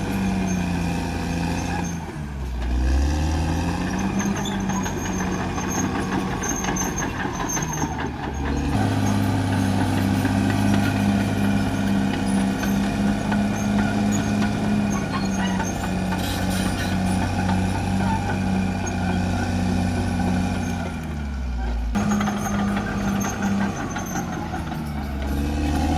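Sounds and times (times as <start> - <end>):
bulldozer diesel engine under load: 0.0 - 25.9.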